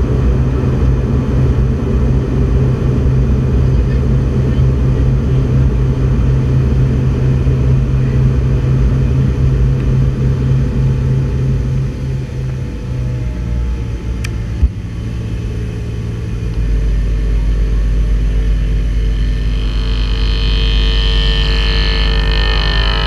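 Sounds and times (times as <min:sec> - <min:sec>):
aircraft cabin rumble: 0:00.0 - 0:23.0.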